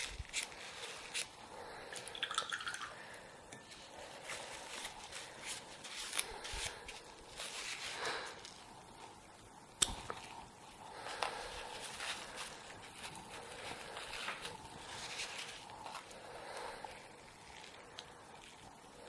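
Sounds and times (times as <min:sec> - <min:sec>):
paper tissue rustling and crinkling: 0:00.0 - 0:02.2, 0:03.6 - 0:19.0.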